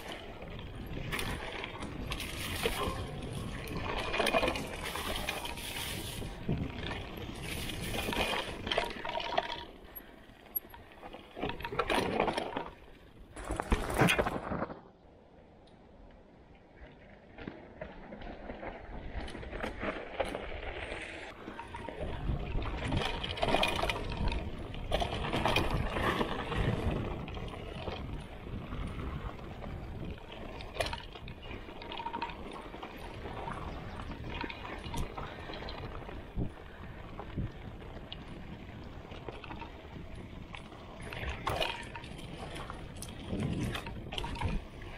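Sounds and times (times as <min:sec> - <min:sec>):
bike rattling and knocking: 0:00.0 - 0:14.8, 0:21.4 - 0:44.9
bike tyres on rough trail: 0:00.0 - 0:44.9.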